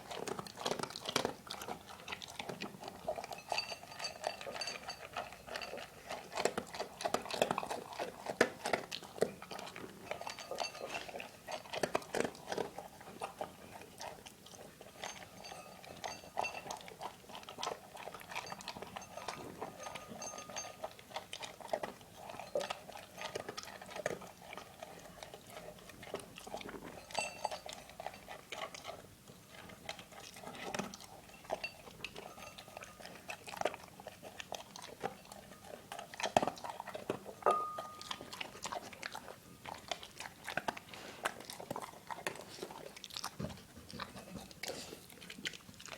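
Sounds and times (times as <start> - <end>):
dog chewing food: 0.0 - 45.9.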